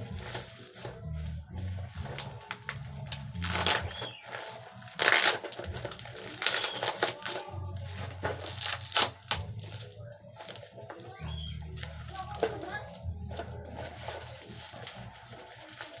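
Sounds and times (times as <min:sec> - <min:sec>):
packaging tearing and rustling: 0:00.0 - 0:10.7, 0:13.3 - 0:16.0.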